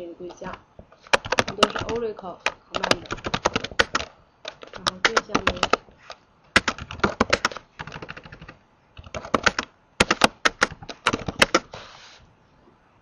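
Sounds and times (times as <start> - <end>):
computer keyboard typing: 0.3 - 11.7.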